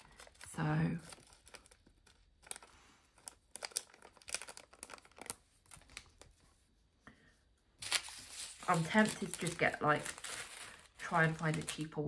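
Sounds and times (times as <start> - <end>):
plastic bags crinkling: 0.0 - 6.3, 7.8 - 12.0.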